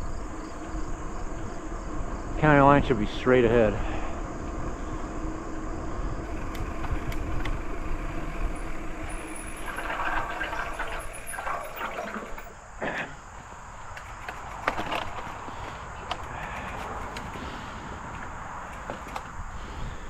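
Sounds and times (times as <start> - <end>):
wind buffeting microphone: 0.0 - 10.9, 13.9 - 20.0
bicycle tyre noise: 0.0 - 12.7, 13.3 - 20.0.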